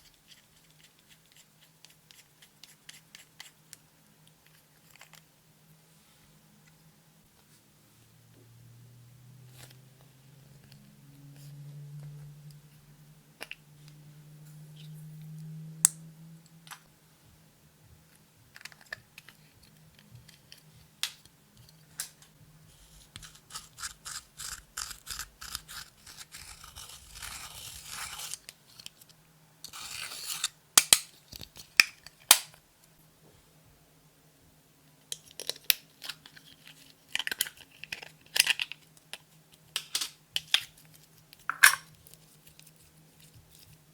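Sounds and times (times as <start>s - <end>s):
faint low hum: 0.0s - 43.9s.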